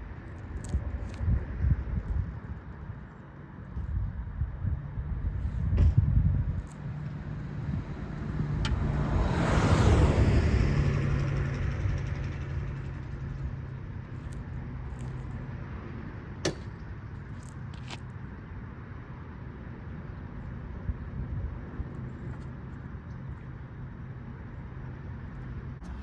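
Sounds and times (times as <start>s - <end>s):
car engine and tyres: 0.0s - 26.0s
low steady rumble: 0.0s - 26.0s.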